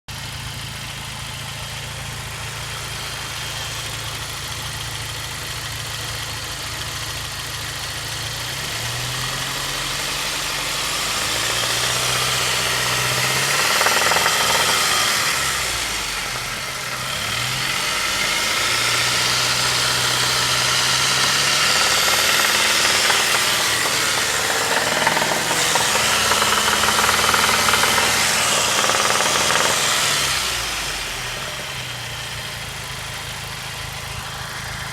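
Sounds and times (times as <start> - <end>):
engine knocking: 0.1 - 34.9
car engine revving: 0.3 - 34.9.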